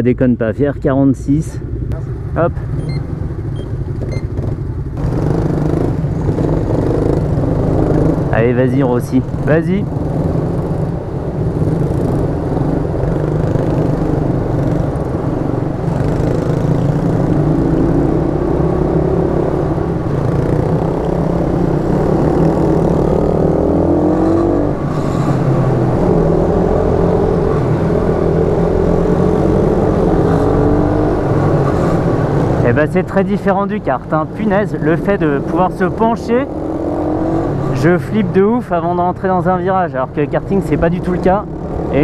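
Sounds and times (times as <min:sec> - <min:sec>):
other mini bikes running: 0:01.6 - 0:42.0.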